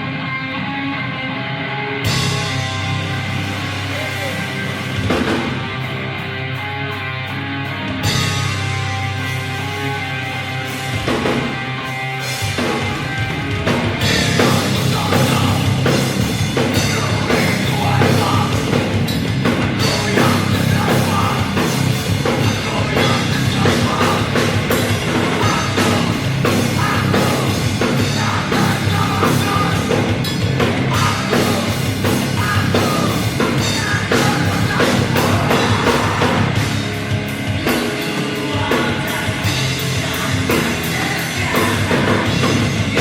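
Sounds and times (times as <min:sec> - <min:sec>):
guitars: 0:00.0 - 0:43.0
heavy rock music: 0:00.0 - 0:43.0
drum kit: 0:02.0 - 0:43.0.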